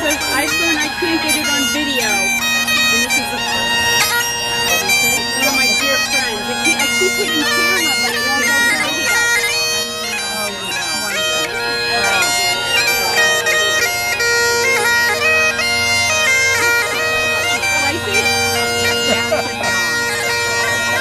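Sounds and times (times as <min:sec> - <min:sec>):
bagpipes playing a tune: 0:00.0 - 0:21.0.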